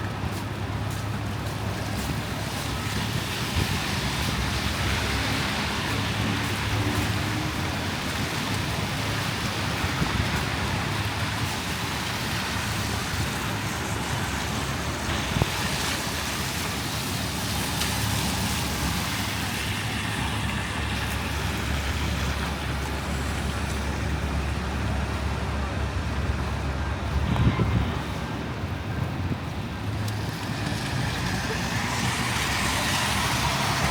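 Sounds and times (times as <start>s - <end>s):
passing traffic: 0.0s - 33.9s
wind rumbling on microphone: 0.0s - 33.9s.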